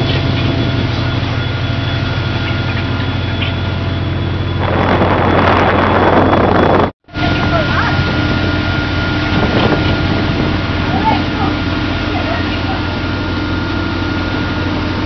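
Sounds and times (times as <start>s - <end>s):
boat engines humming: 0.0s - 15.0s
sea water rushing and splashing: 0.0s - 15.0s
thin steady whine: 0.0s - 15.0s.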